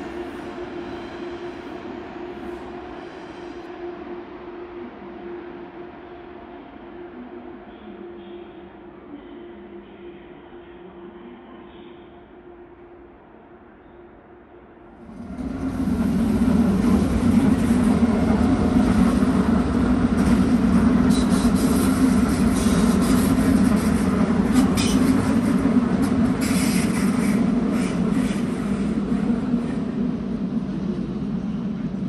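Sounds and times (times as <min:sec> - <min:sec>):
electric train running on rails: 0:00.0 - 0:32.0.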